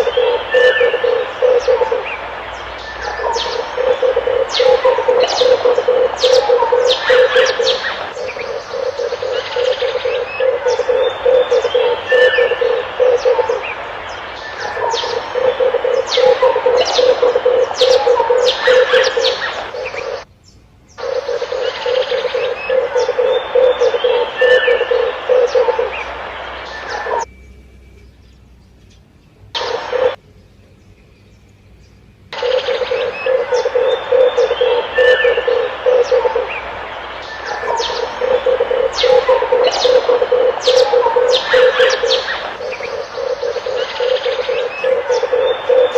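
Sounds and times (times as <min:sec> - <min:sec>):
dove cooing: 0:00.0 - 0:20.2, 0:21.0 - 0:27.3, 0:29.6 - 0:30.2, 0:32.4 - 0:45.9
birds chirping sharply: 0:00.0 - 0:45.9.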